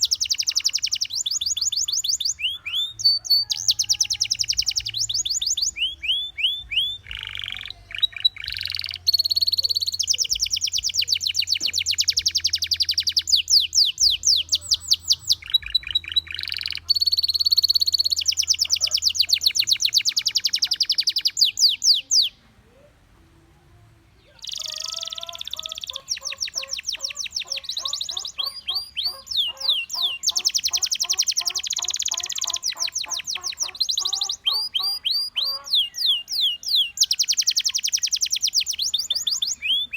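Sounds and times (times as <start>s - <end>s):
canary singing trills: 0.0s - 23.1s, 24.1s - 39.9s.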